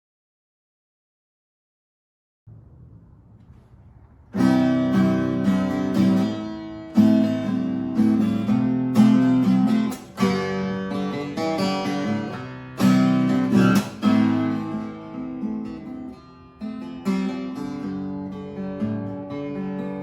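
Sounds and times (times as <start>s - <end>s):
acoustic guitar playing: 2.6s - 20.0s.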